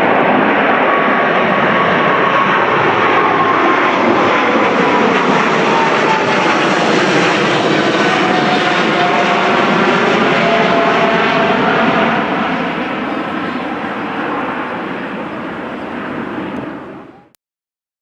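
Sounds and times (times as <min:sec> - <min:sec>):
jet airliner roar: 0:00.0 - 0:17.4
jet engine whine: 0:00.0 - 0:17.4.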